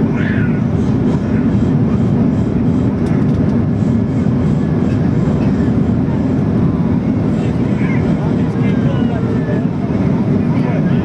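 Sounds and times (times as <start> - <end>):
jet engine and airflow rumble: 0.0 - 11.0.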